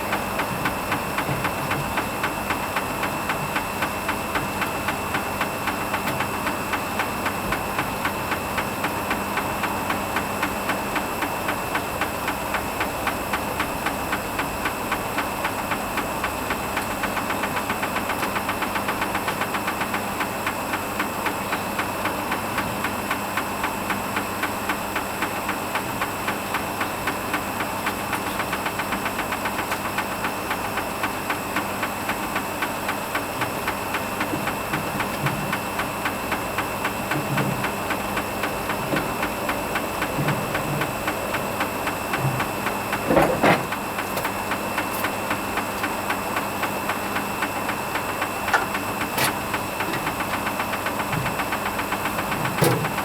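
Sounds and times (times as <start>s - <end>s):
washing machine motor humming: 0.0s - 53.0s.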